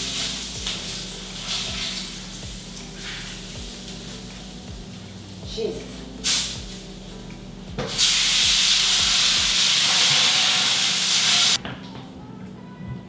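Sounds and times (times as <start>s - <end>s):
loud steady hiss: 0.0s - 11.6s.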